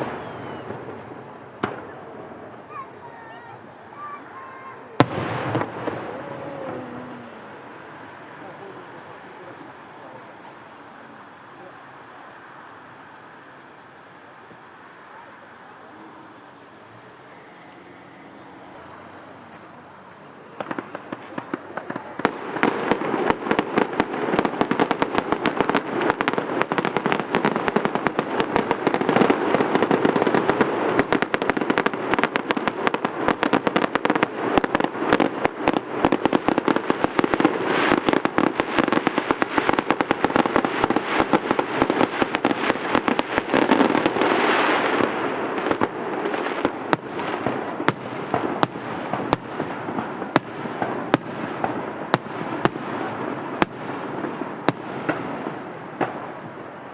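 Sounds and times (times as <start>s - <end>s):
fireworks bursts and crackling: 0.0s - 56.9s.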